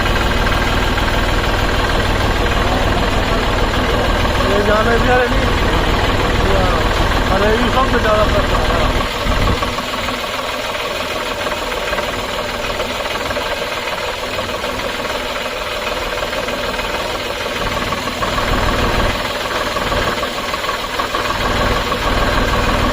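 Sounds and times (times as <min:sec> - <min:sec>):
engine running with low rumble: 0:00.0 - 0:22.9.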